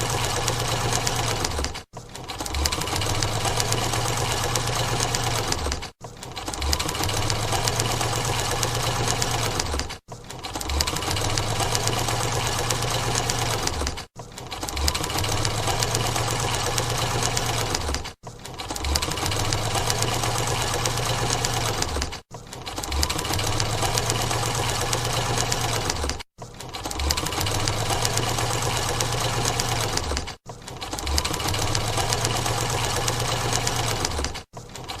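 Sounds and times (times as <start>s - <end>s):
sewing machine clatter: 0.0s - 35.0s.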